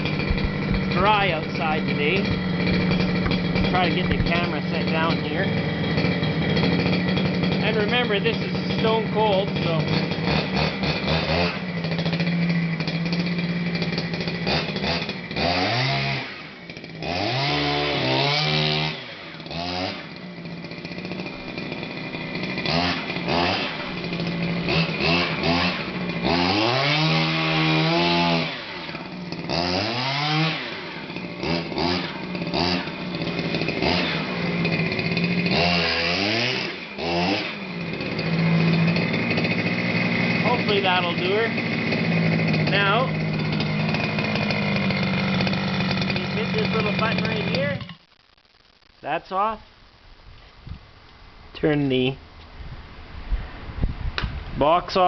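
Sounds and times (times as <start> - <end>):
small two-stroke engine revving: 0.0 - 48.1.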